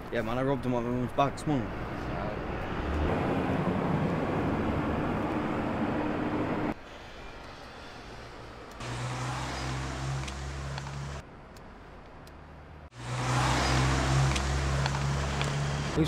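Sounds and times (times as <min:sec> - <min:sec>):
road traffic noise: 0:00.0 - 0:16.0
street sound: 0:00.0 - 0:16.0
vehicle engine hum: 0:01.4 - 0:16.0.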